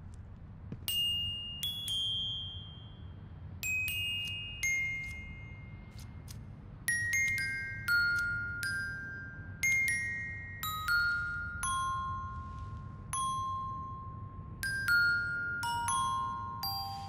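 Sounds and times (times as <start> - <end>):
watch chiming bell-like notes: 0.9 - 5.8, 6.9 - 17.0.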